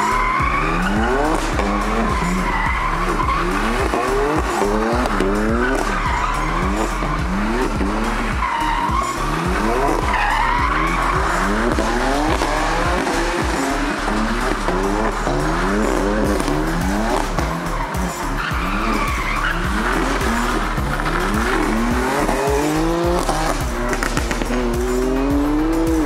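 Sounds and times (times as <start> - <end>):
car engine revving: 0.0 - 26.0
tyres squealing: 0.0 - 26.0.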